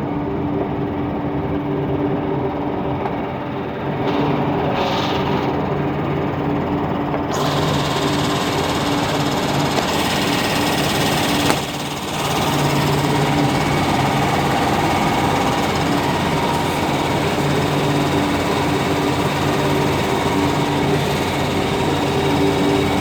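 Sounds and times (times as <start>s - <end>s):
machine droning and humming: 0.0s - 23.0s.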